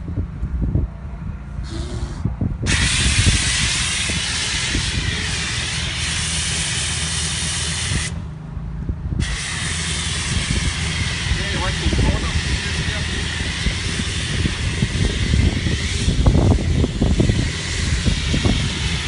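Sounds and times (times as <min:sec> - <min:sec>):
pressure washer foam spraying: 0:01.7 - 0:08.2, 0:09.2 - 0:19.0.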